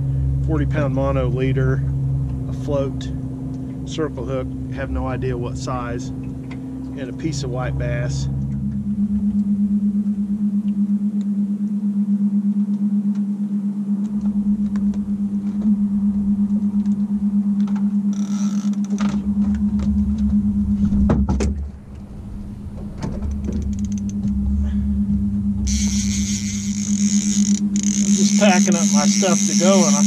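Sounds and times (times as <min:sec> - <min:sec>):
outboard motor running: 0:00.0 - 0:12.1, 0:13.8 - 0:30.0.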